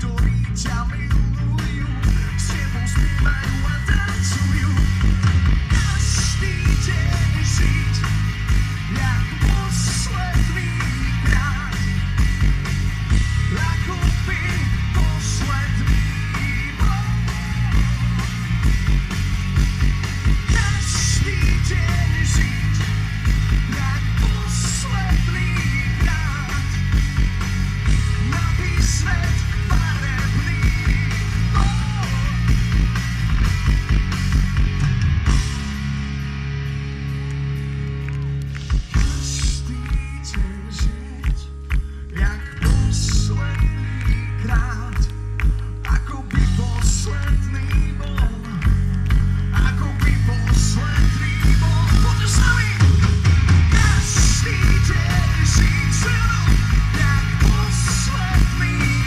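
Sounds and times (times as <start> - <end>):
lead singer vocals: 0.0 - 8.2, 8.8 - 12.0, 13.4 - 18.1, 20.5 - 26.9, 27.9 - 32.5, 38.9 - 59.0
bass guitar: 0.0 - 59.0
distorted electric guitars: 0.0 - 59.0
drum kit: 0.0 - 59.0.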